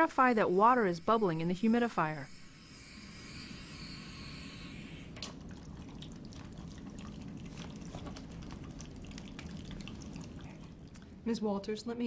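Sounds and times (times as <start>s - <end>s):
water bubbling in humidifier bottle: 0.0s - 11.2s.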